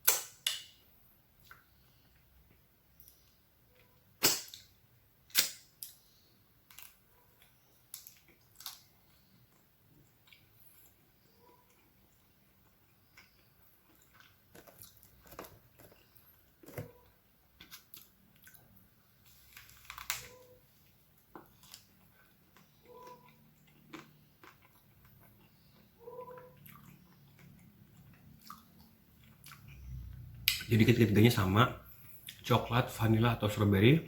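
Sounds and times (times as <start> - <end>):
ice cream crunching and chewing: 1.4 - 30.8.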